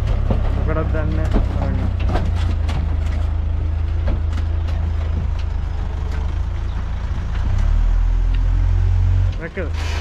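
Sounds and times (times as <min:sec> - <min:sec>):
forklift engine rumbling: 0:00.0 - 0:10.0.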